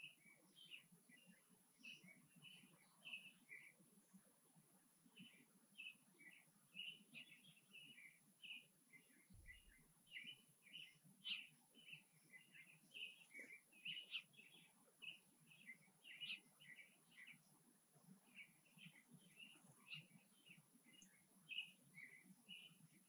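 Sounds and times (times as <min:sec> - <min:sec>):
small songbirds chirping: 0:00.0 - 0:23.0.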